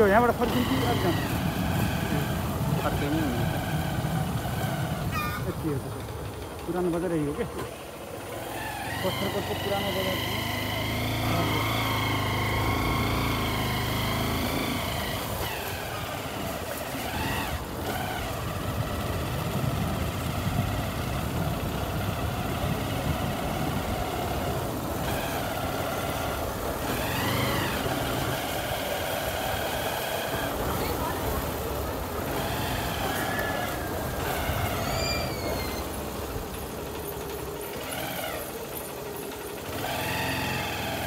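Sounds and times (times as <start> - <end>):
vehicle engine revving while driving: 0.0 - 7.0, 7.6 - 41.0
rush of road noise: 0.0 - 41.0.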